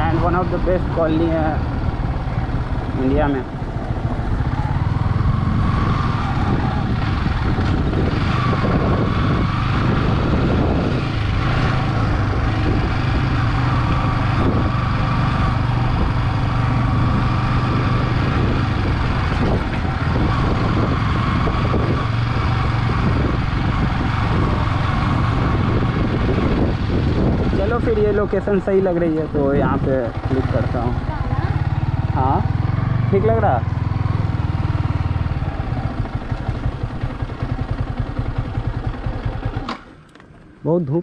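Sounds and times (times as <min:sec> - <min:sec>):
motorcycle engine running: 0:00.0 - 0:41.0
road and wind noise: 0:00.0 - 0:41.0.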